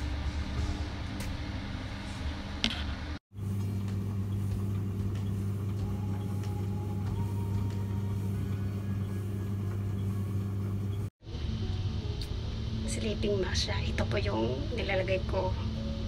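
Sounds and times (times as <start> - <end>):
steady low motor hum: 0.0 - 16.0.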